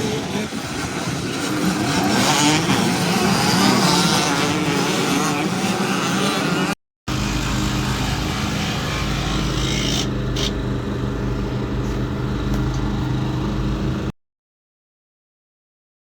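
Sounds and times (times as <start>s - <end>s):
motocross bike engine running: 0.0s - 14.1s.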